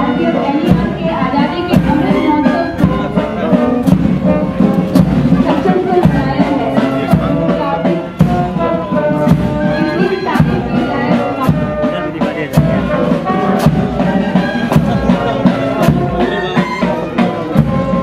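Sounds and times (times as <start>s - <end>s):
held instrumental notes: 0.0s - 18.0s
steady beat: 0.0s - 18.0s.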